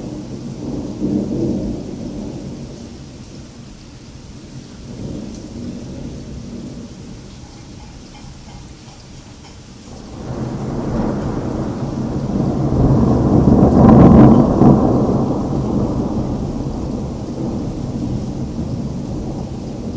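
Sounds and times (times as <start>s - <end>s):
long roll of thunder: 0.0s - 8.2s, 9.1s - 19.9s
steady rain: 0.0s - 19.9s.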